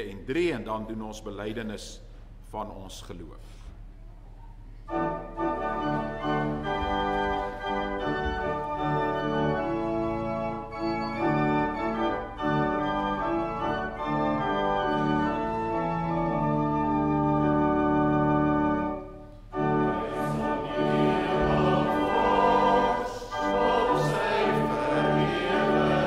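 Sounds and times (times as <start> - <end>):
church organ playing a hymn: 4.8 - 26.0.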